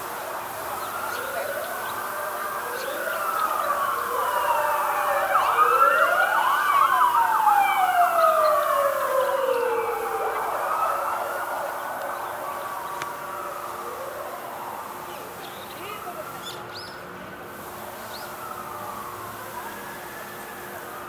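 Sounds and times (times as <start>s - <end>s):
sirens wailing: 0.0s - 21.0s.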